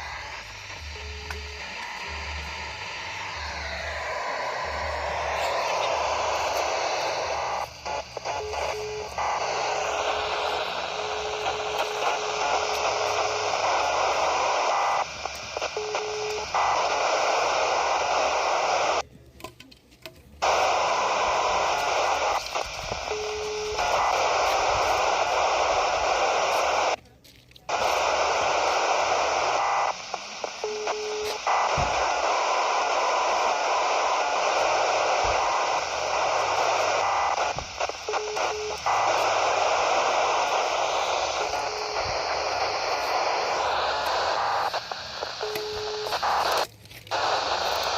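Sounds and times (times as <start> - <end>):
loud rushing radio hiss: 0.0 - 19.0, 20.4 - 27.0, 27.7 - 47.9.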